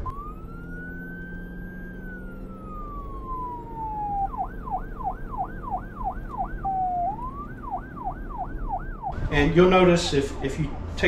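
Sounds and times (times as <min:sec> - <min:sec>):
siren wailing and yelping: 0:00.0 - 0:11.0.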